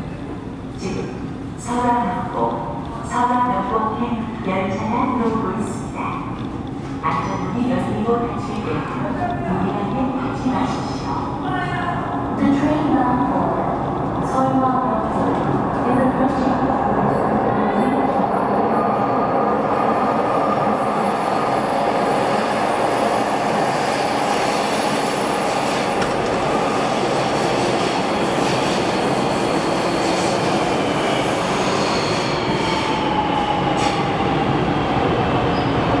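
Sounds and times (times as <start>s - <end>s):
train wheels rumbling on rail: 5.1s - 36.0s.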